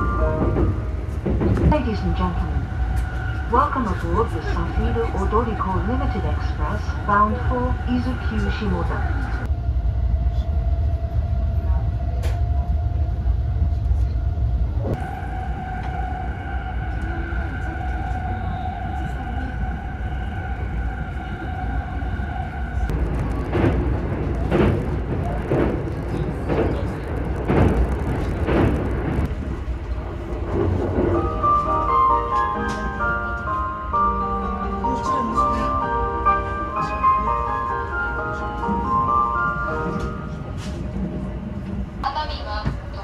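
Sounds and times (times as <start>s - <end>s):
train interior rumble: 0.0s - 43.0s.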